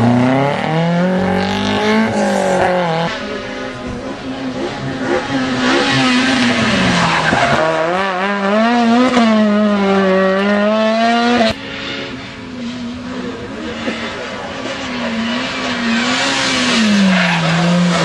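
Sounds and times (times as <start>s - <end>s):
rally car engine revving high: 0.0s - 18.0s.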